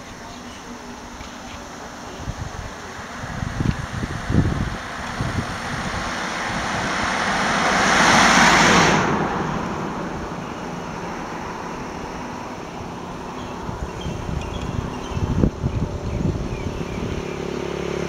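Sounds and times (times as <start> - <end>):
car passing close by: 2.8 - 18.0.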